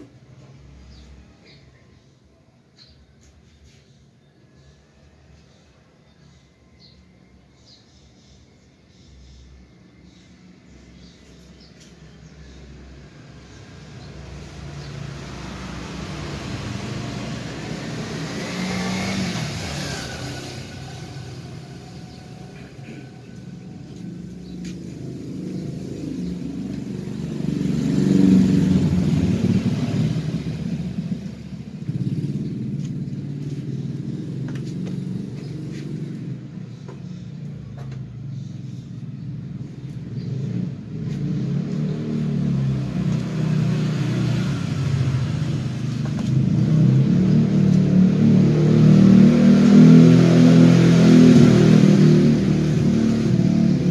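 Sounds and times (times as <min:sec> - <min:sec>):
vehicles passing by: 0:00.0 - 0:53.9.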